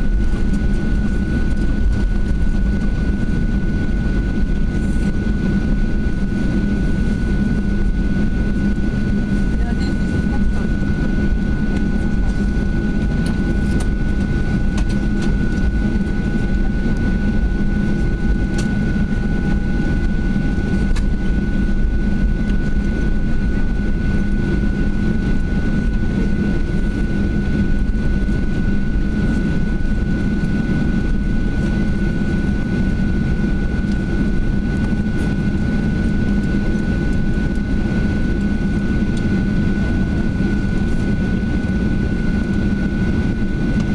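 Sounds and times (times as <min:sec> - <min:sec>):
airplane cabin engine hum: 0:00.0 - 0:43.9
high-pitched engine whine: 0:00.0 - 0:43.9.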